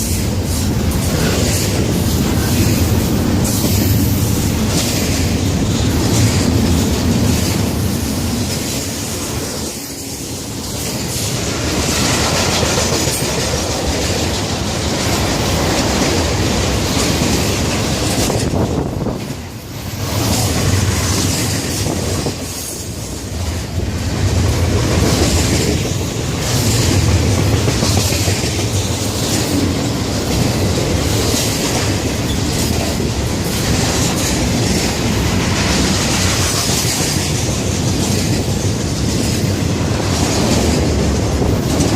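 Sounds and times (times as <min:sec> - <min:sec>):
freight train wheels clacking: 0:00.0 - 0:41.9.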